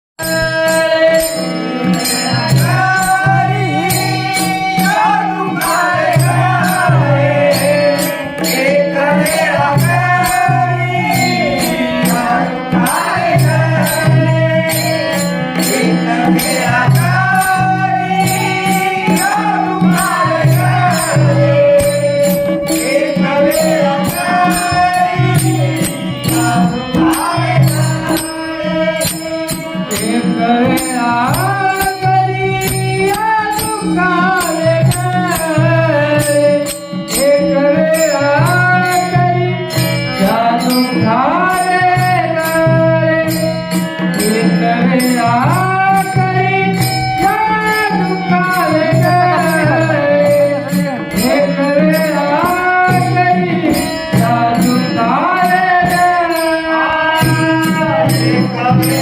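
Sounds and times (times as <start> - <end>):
harmonium: 0.2 - 59.0
person singing: 0.2 - 59.0
small hand cymbals: 0.2 - 59.0
hand drum beat: 2.3 - 56.3.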